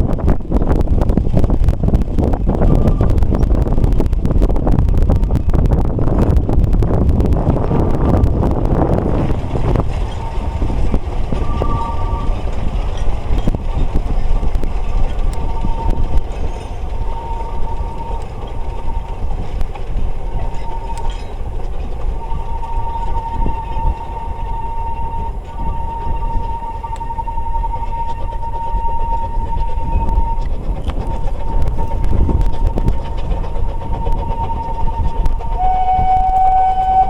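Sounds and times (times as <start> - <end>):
steam locomotives rumbling: 0.0 - 37.0
high steady tone: 7.2 - 37.0.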